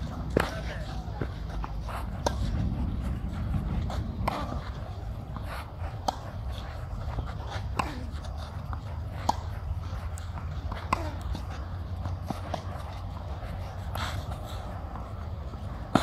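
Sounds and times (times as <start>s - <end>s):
steady low rumble: 0.0s - 16.0s
tennis balls hit by rackets: 0.0s - 16.0s.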